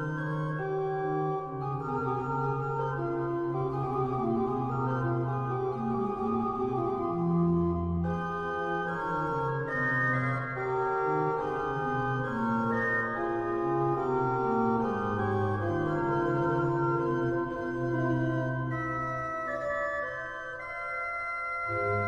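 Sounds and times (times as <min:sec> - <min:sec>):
organ playing classical piece: 0:00.0 - 0:22.0.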